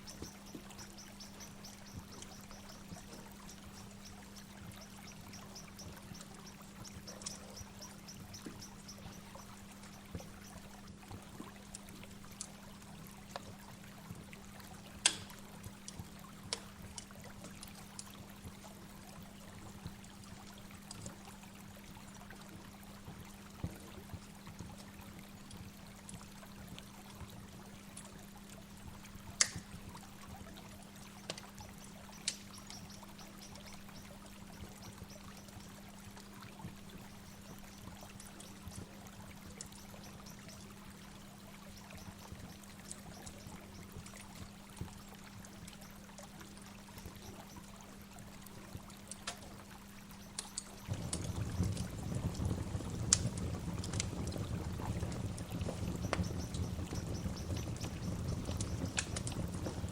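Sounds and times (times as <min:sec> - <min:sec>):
small drip-like clicks: 0:00.0 - 0:59.9.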